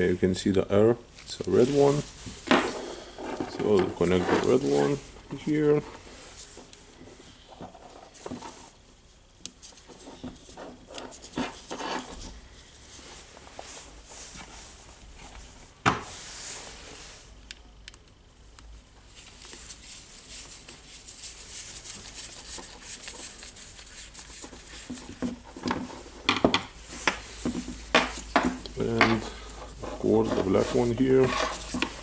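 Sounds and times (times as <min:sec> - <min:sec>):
soft rubbing: 0:01.1 - 0:17.4, 0:19.0 - 0:26.2, 0:26.8 - 0:32.0.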